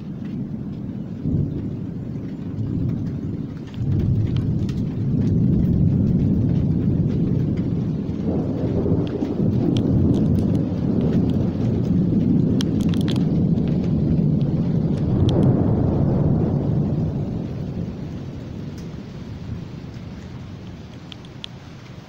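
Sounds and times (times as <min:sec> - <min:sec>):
falling rain: 0:00.0 - 0:22.0
thunder rumbling: 0:00.0 - 0:22.0.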